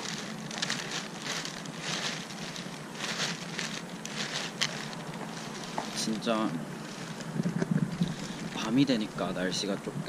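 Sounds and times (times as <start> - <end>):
footsteps walking: 0.0 - 8.8
plastic bag rustling: 0.0 - 9.7
faint steady hum: 0.0 - 10.0.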